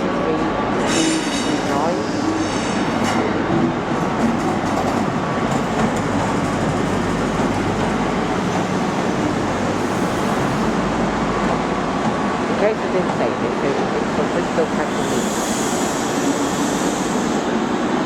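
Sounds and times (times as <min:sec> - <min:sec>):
train engine and wheels: 0:00.0 - 0:18.0.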